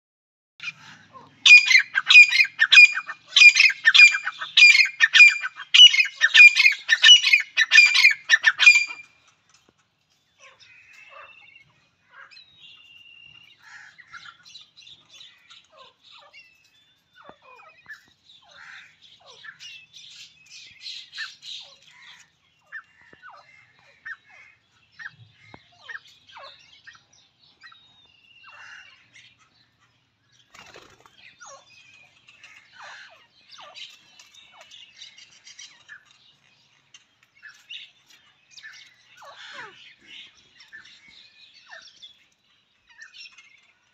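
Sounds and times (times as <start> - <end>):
bird chirps: 0.6 - 43.9.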